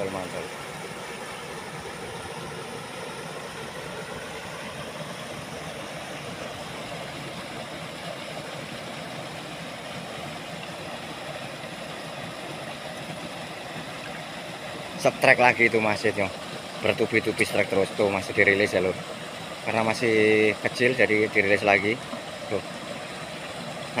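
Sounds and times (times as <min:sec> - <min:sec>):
water rushing over a weir: 0:00.0 - 0:24.0.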